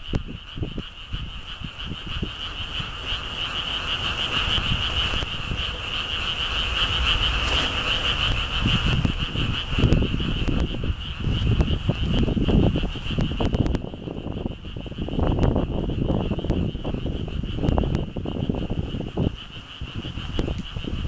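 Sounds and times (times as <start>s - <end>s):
frogs calling: 0.0s - 21.0s
wind buffeting microphone: 0.0s - 21.0s.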